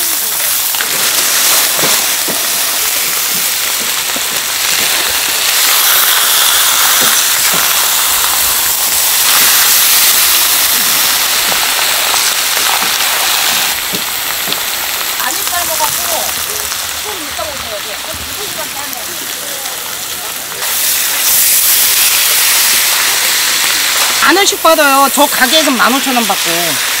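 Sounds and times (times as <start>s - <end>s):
meat sizzling on a griddle: 0.0s - 27.0s.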